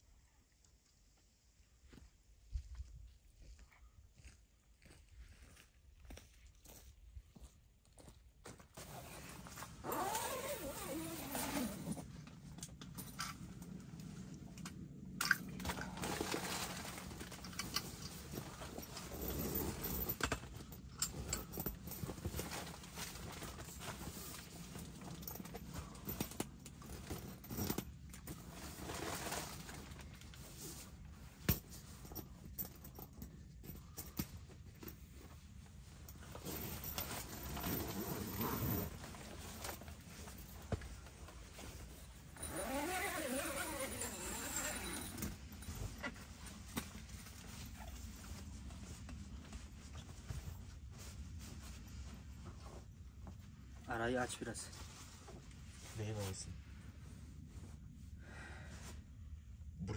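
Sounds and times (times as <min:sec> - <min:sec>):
rustling of handled objects: 0:07.4 - 0:58.2.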